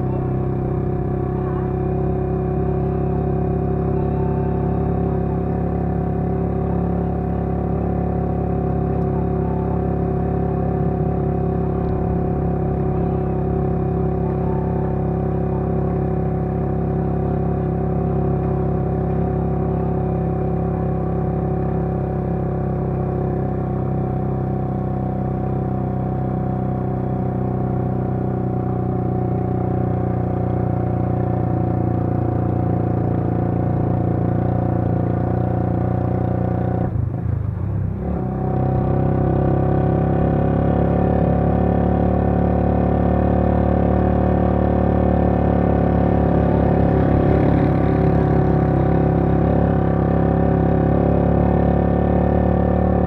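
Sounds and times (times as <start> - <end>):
vehicle engine droning: 0.0 - 53.0.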